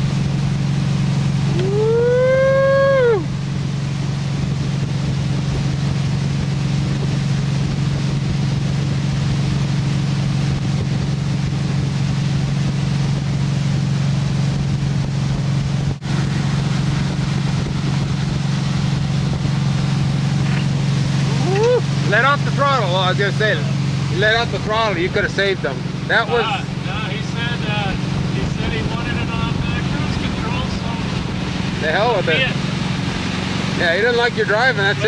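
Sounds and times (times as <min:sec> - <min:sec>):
wind noise: 0:00.0 - 0:22.7, 0:23.8 - 0:34.3
boat engine humming: 0:00.0 - 0:35.0
water noise: 0:00.0 - 0:35.0.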